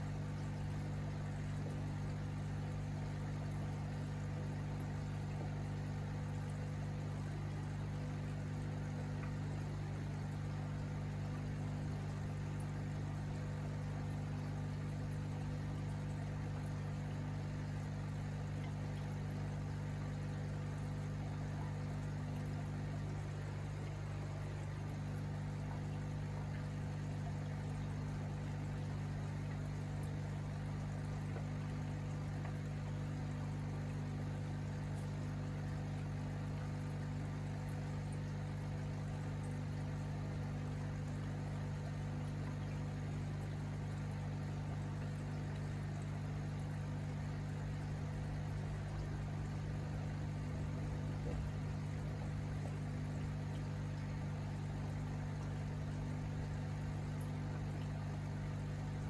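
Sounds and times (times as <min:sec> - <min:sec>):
aquarium pump humming: 0:00.0 - 0:59.0.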